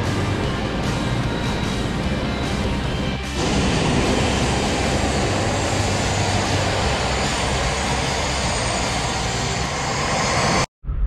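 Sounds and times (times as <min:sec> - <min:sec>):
train whooshing: 0:00.1 - 0:10.7.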